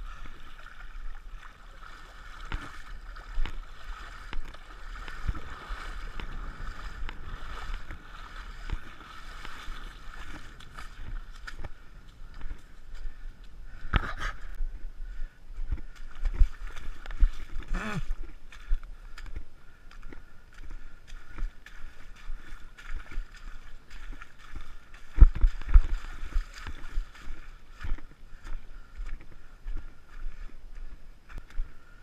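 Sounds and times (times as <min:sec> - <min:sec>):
footsteps splashing through mud: 0:00.0 - 0:14.5, 0:15.6 - 0:31.9.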